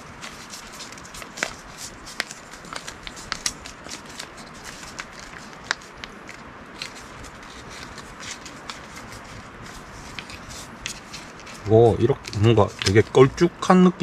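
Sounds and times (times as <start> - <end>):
steady low hiss: 0.0 - 14.0
utensils and packaging clicking: 0.2 - 13.3.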